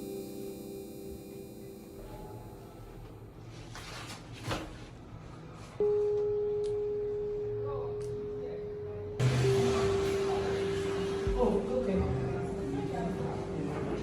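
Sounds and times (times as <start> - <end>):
steady pure tone: 0.0 - 3.6, 5.8 - 14.0.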